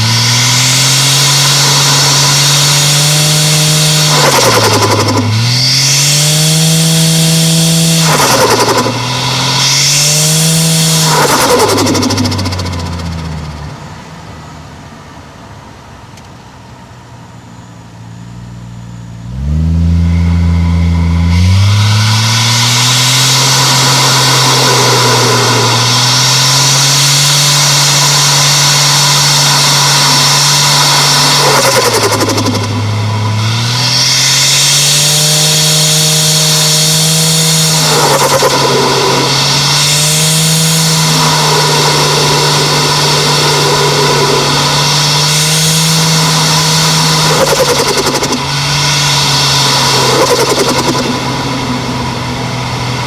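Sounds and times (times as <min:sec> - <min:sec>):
car engine revving: 0:00.0 - 0:16.9, 0:17.7 - 0:53.0.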